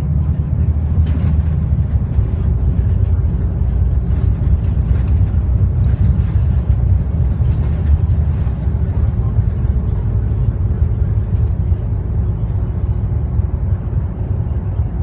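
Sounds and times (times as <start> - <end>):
bus diesel engine running: 0.0 - 15.0
road noise: 0.0 - 15.0.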